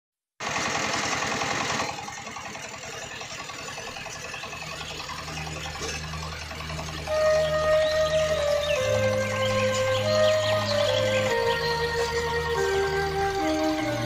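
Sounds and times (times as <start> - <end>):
diesel tiller engine running: 0.4 - 14.0.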